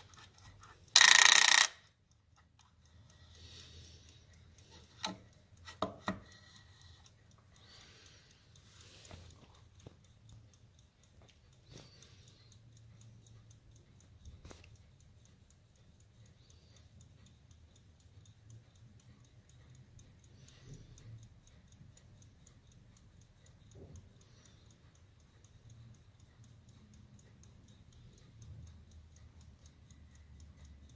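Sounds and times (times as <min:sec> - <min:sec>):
clock ticking: 0:00.0 - 0:30.9.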